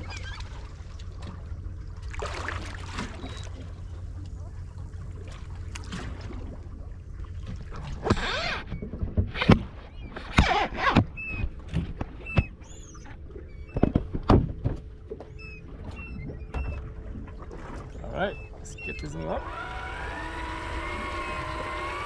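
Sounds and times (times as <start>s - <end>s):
water splashing against boat hull: 0.0s - 22.0s.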